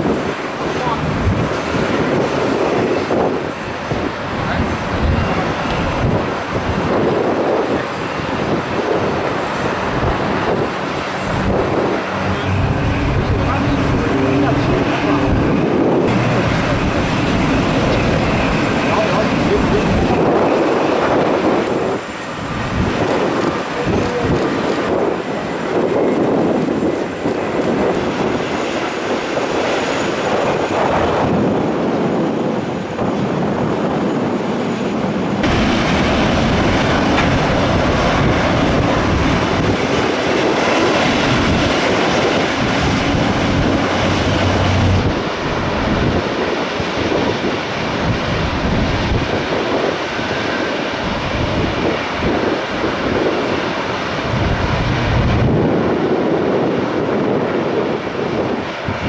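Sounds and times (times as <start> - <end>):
airliner engines roaring: 0.0 - 59.0.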